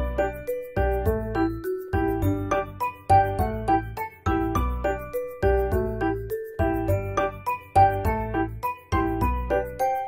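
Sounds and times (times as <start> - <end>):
children's keyboard tune: 0.0 - 10.0.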